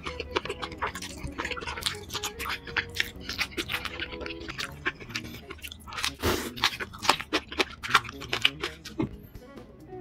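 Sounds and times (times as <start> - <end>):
slurping and wet chewing: 0.0 - 9.2
soft background music: 0.0 - 10.0.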